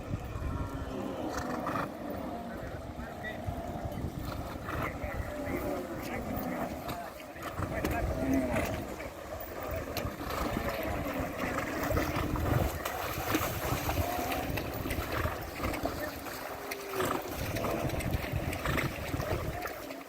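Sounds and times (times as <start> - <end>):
wind on microphone: 0.0 - 19.8
water splashing and sloshing: 0.0 - 20.0.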